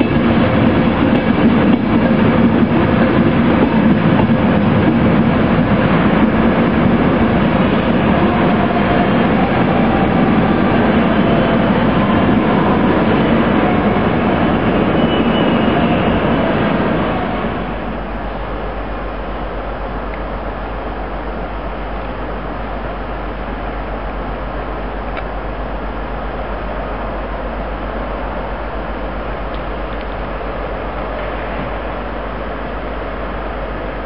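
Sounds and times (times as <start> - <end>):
low train hum: 0.0 - 34.0
train wheels rumbling on rail: 0.0 - 34.0.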